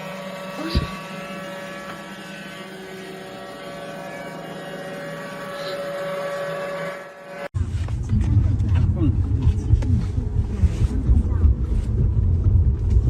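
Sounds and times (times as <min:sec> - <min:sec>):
mechanical drone: 0:00.0 - 0:13.0.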